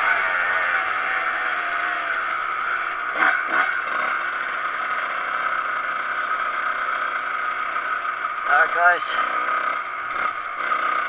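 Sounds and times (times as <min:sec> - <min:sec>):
two-stroke dirt bike engine: 0:00.0 - 0:11.0.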